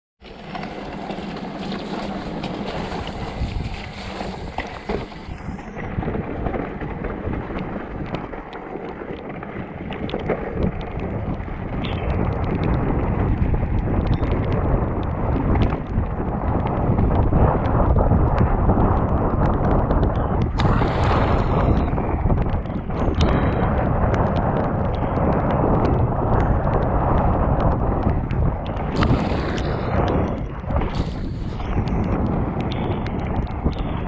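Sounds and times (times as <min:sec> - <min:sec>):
tyres on wet dirt: 0:00.2 - 0:15.7, 0:16.5 - 0:34.0
bike clicks and rattles: 0:00.2 - 0:34.0
wind rushing over microphone: 0:00.3 - 0:34.0.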